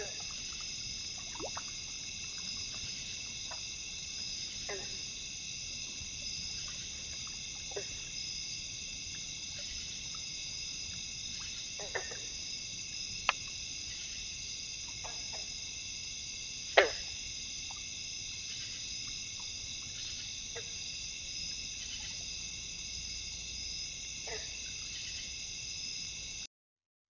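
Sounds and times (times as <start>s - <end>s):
chorus of night insects: 0.0s - 26.5s.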